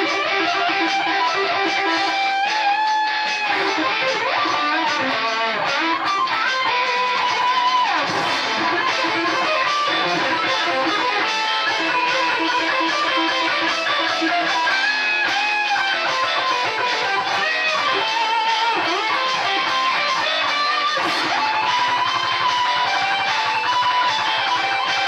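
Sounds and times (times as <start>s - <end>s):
backing track: 0.0s - 25.0s
electric guitar lead solo: 0.0s - 25.0s.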